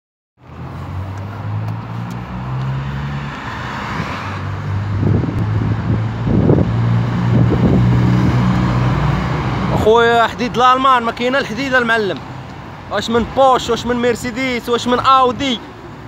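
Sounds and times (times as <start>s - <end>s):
cars driving past: 0.4s - 16.0s.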